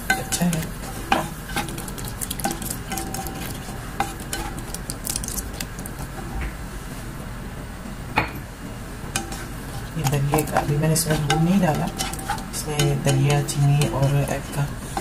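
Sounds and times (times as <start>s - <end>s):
spatula scraping a pan: 0.0s - 6.4s, 9.1s - 15.0s.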